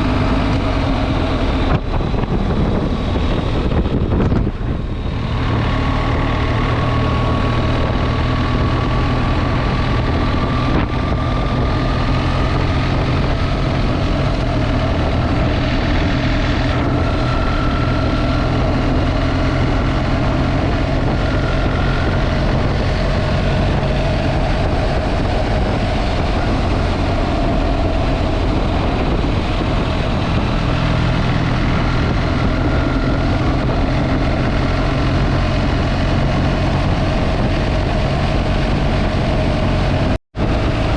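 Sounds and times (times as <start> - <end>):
motorcycle engine hum: 0.0 - 40.9
wind and road noise: 0.0 - 40.9.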